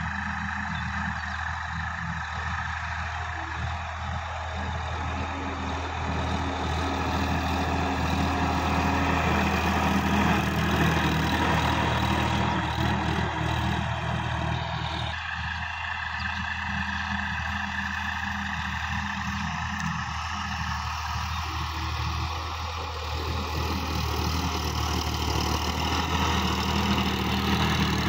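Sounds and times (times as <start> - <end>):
tiller blades churning soil: 0.0 - 28.0
tractor diesel engine: 0.0 - 28.0.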